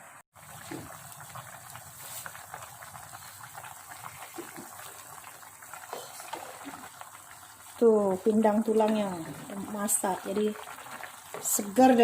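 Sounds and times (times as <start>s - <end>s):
soup boiling and bubbling: 0.0s - 12.0s.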